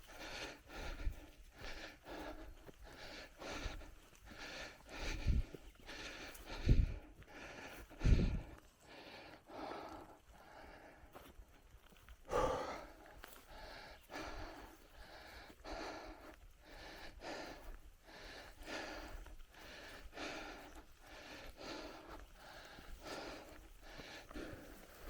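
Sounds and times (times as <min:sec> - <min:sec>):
heavy rhythmic breathing: 0:00.0 - 0:25.0.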